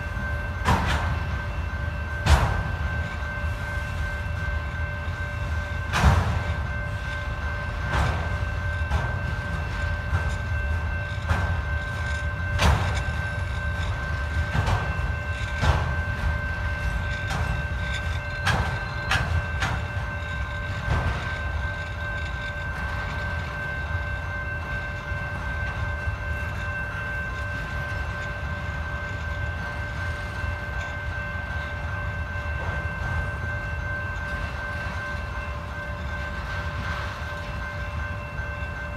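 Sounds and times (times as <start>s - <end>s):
steady high ringing tone: 0.0s - 38.9s.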